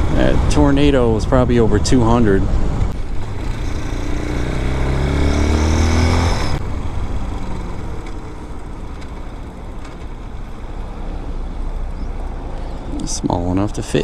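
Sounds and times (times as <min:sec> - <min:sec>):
dirt bike engine accelerating: 0:00.0 - 0:12.3.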